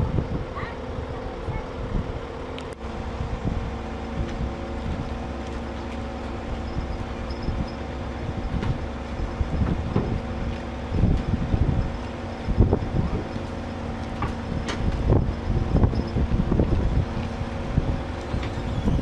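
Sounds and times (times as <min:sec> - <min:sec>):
heavy vehicle engine droning: 0:00.0 - 0:19.0
low rumbling noise: 0:00.0 - 0:19.0.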